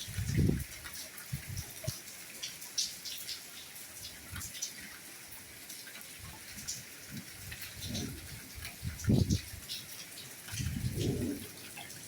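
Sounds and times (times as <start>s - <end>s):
drops ticking and dripping: 0.0s - 12.0s
soft rain falling: 0.0s - 12.0s.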